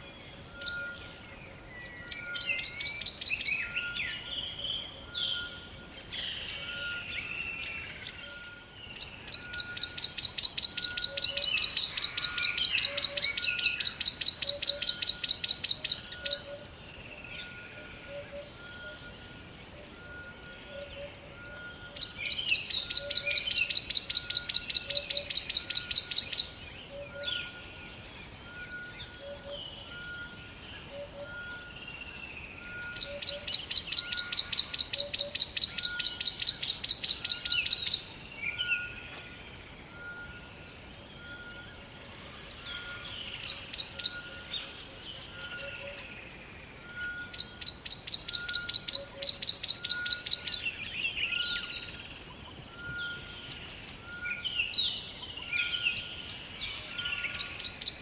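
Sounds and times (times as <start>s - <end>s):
bird singing fast trill: 0.0s - 19.4s, 20.0s - 58.0s.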